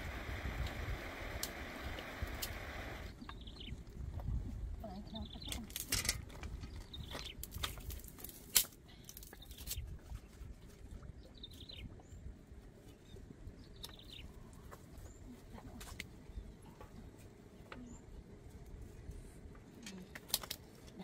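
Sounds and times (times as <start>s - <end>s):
steady low rumble: 0.0s - 21.0s
small birds chirping: 1.8s - 8.2s, 8.8s - 21.0s.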